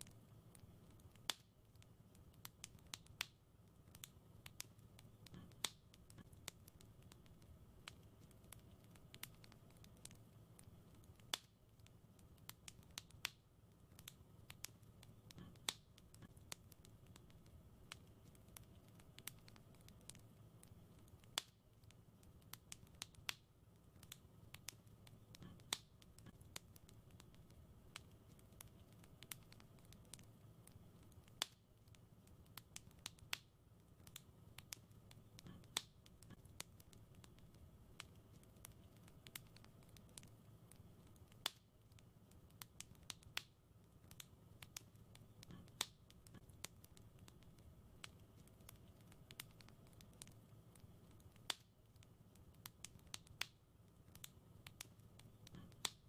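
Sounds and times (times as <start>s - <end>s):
faint low hum: 0.0s - 56.0s
wood fire crackling: 0.0s - 56.0s.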